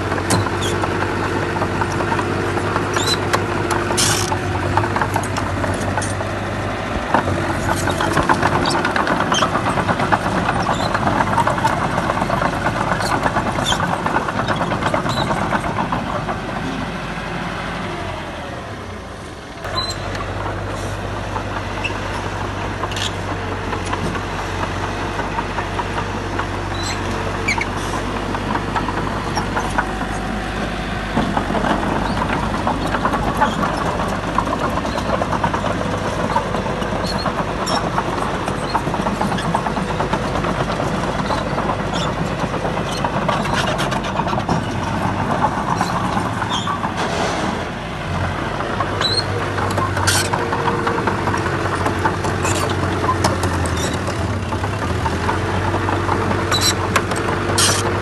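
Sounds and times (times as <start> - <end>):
bulldozer diesel engine running: 0.0 - 58.0
clanks and knocks of tracks: 0.0 - 58.0.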